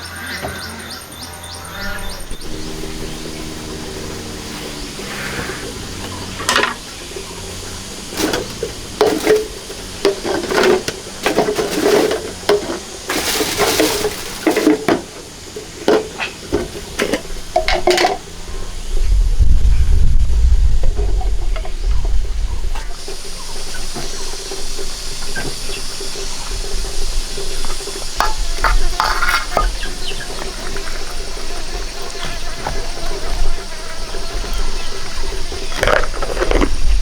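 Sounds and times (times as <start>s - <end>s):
water rushing: 2.1s - 19.3s, 20.4s - 37.0s
utensils knocking and clinking: 2.2s - 18.4s, 22.9s - 37.0s.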